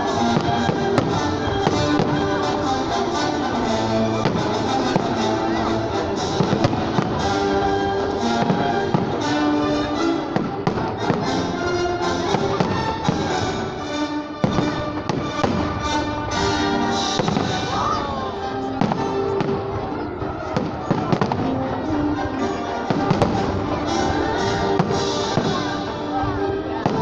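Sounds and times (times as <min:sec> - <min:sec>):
fireworks bangs: 0:00.0 - 0:13.8, 0:14.4 - 0:27.0
music with held notes: 0:00.0 - 0:27.0.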